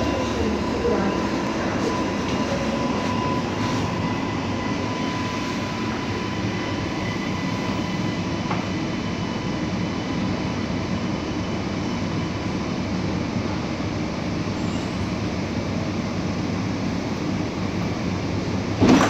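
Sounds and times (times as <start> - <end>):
metro train rumble: 0.0 - 19.0.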